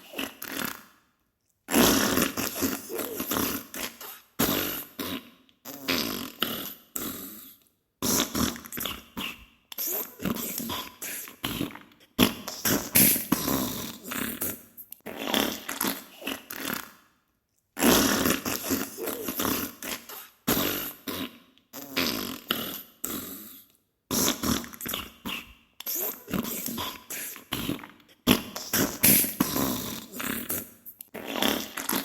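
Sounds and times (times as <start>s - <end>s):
farting and spluttering: 1.7s - 7.1s, 8.0s - 17.0s, 17.8s - 23.2s, 24.1s - 32.0s.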